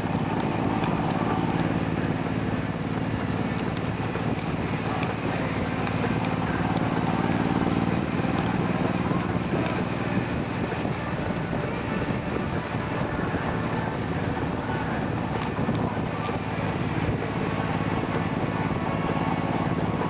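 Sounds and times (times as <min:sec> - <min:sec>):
vehicle engine running: 0:00.0 - 0:20.0
wind and road noise: 0:00.0 - 0:20.0.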